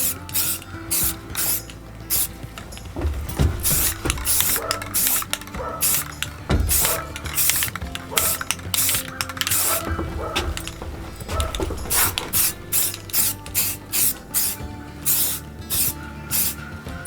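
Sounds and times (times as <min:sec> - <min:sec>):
spray paint can hissing: 0:00.0 - 0:16.7.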